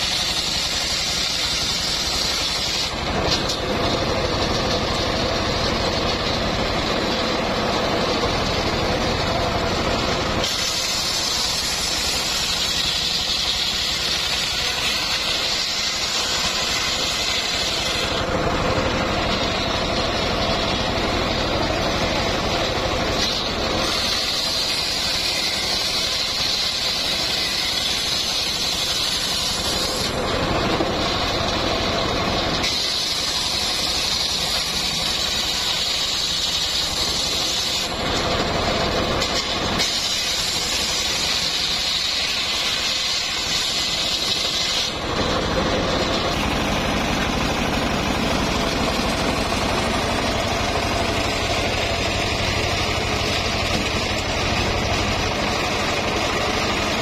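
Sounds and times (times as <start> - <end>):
high saw cutting whine: 0.0 - 57.0
sawmill engine running: 0.0 - 57.0.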